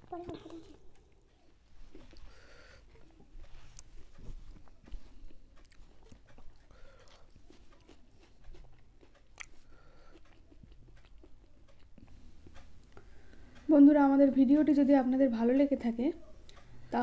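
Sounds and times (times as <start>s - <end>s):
chewing food: 0.0s - 13.7s.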